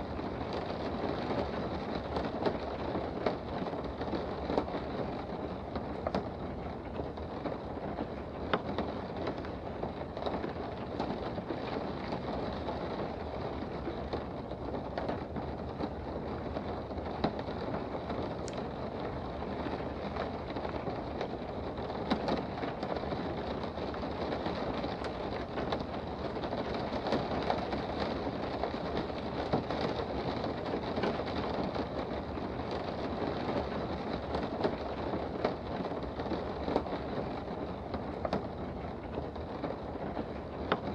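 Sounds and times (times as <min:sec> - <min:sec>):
rain patter heard indoors: 0:00.0 - 0:40.9.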